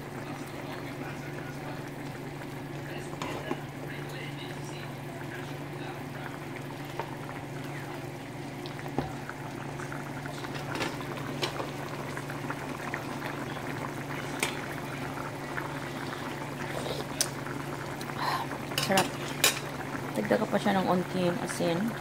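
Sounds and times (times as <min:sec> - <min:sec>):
stew bubbling: 0:00.0 - 0:22.0.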